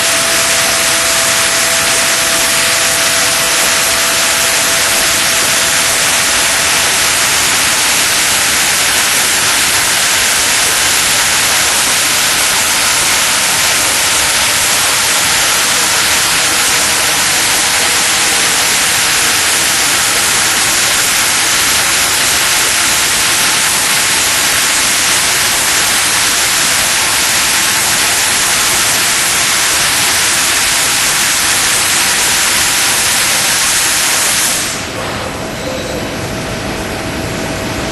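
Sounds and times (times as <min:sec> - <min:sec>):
machine cutting hiss: 0:00.0 - 0:36.0.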